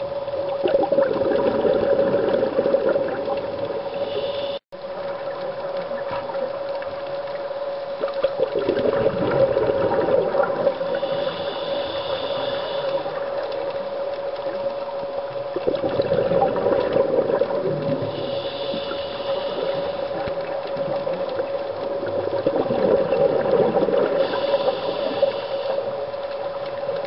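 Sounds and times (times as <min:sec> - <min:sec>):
steady hum: 0:00.0 - 0:27.0
underwater bubbles gurgling: 0:00.0 - 0:27.0.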